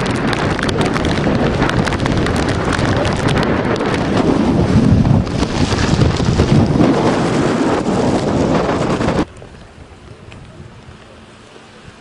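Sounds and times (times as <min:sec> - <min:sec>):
heavy surf breaking: 0:00.0 - 0:11.2
storm wind gusts on microphone: 0:00.0 - 0:12.0.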